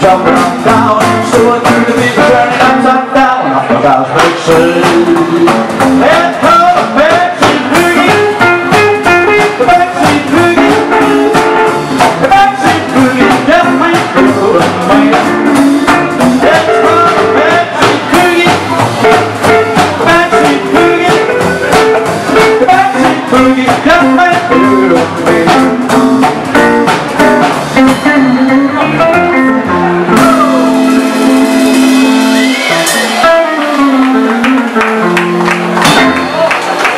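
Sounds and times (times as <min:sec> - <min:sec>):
drum kit beat: 0:00.0 - 0:36.9
rock and roll band playing: 0:00.0 - 0:36.9.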